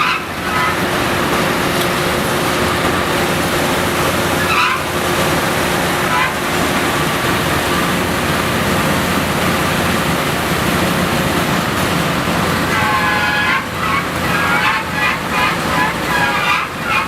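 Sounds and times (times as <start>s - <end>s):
drilling rig machinery din: 0.0s - 17.0s.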